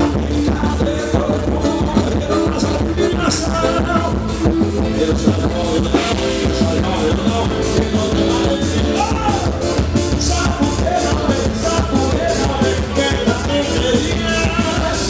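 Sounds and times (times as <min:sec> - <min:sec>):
band music with steady beat: 0:00.0 - 0:15.0
person singing: 0:00.0 - 0:15.0.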